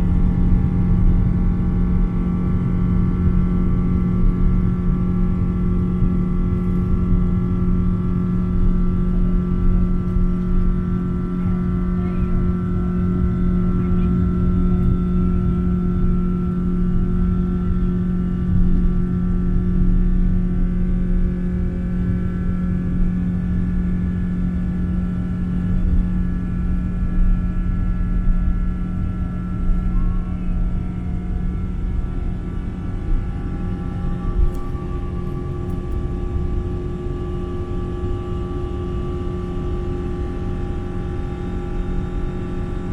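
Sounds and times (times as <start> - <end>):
airplane cabin engine drone: 0.0 - 42.9.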